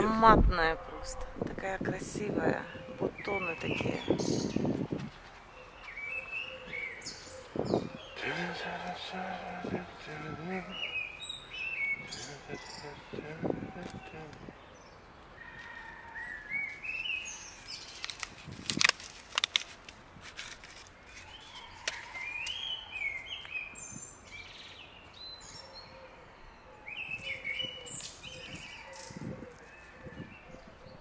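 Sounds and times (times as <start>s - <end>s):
birds chirping: 0.0s - 18.2s, 20.8s - 31.0s.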